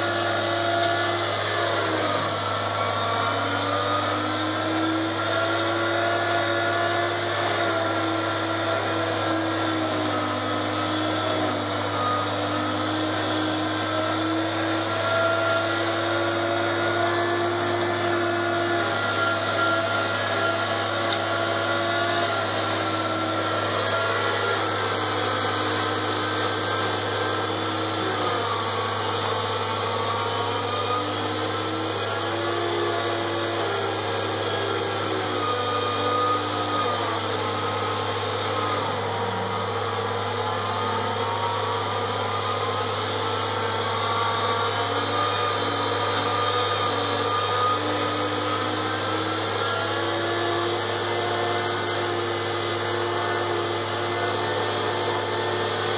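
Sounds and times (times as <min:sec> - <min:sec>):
mill grinding corn stalks: 0:00.0 - 0:55.9.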